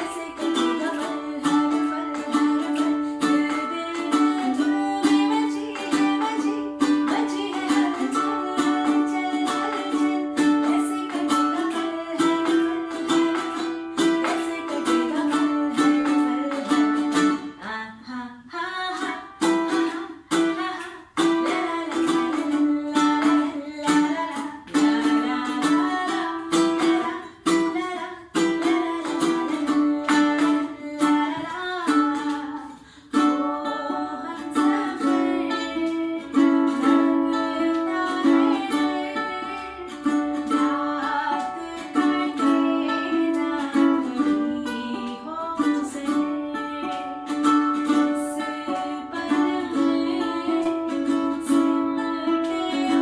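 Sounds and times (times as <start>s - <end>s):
strummed ukulele: 0.0s - 53.0s
woman singing: 0.0s - 53.0s.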